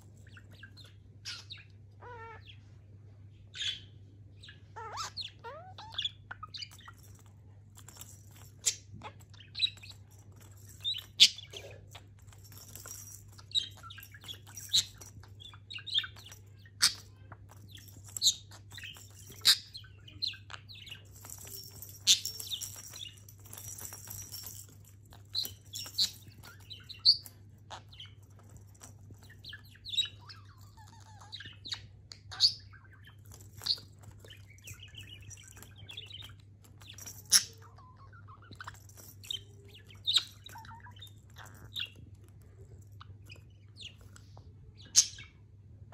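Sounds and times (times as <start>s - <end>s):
small bells jingling: 0.0s - 1.6s, 5.9s - 44.2s.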